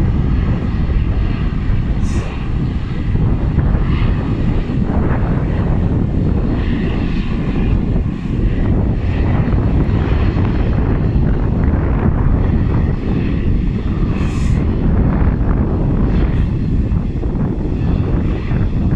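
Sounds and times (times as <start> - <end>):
turboprop engines droning: 0.0 - 18.9.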